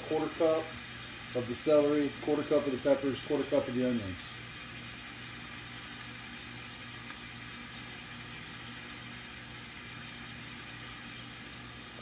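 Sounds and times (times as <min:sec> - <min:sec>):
food sizzling in a skillet: 0:00.0 - 0:12.0.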